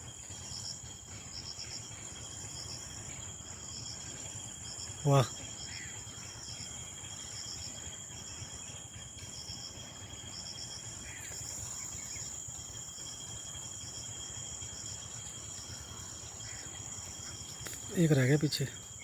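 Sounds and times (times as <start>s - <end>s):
insect trill: 0.0s - 19.0s
rapid insect chirps: 0.0s - 19.0s.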